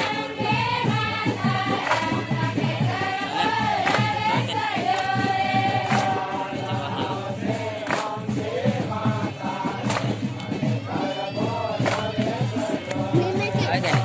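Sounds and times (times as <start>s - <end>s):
group of voices chanting: 0.0s - 14.0s
quick drumming: 0.0s - 14.0s
sharp percussive strike: 0.0s - 14.0s.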